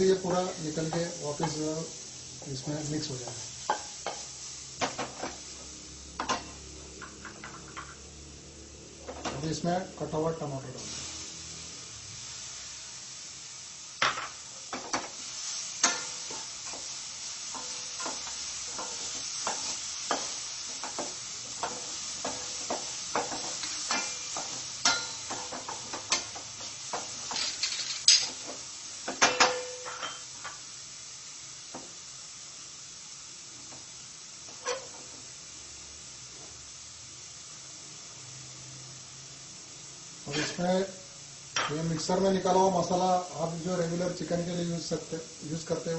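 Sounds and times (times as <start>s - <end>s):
food sizzling: 0.0s - 45.9s.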